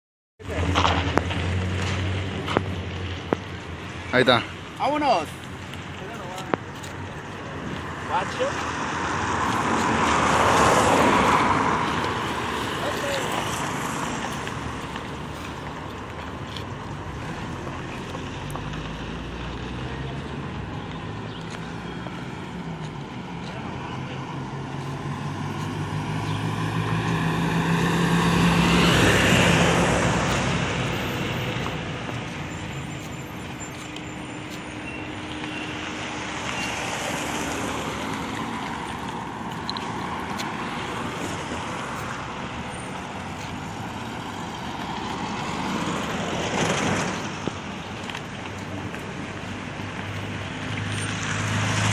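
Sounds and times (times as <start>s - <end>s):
road traffic passing: 0.4s - 51.9s
bus engine drone: 5.4s - 51.9s.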